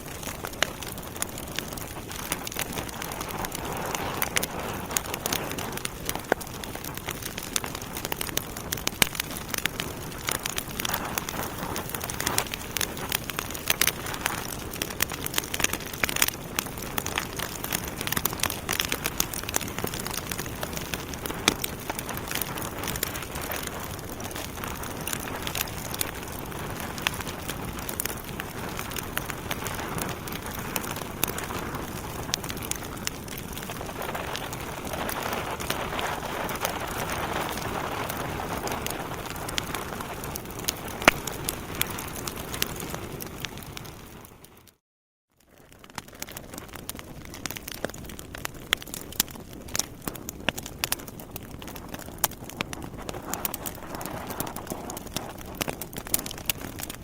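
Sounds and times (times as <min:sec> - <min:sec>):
hiss of burning logs: 0:00.0 - 0:44.7, 0:45.8 - 0:57.0
fire popping and snapping: 0:00.0 - 0:44.8, 0:45.4 - 0:57.0.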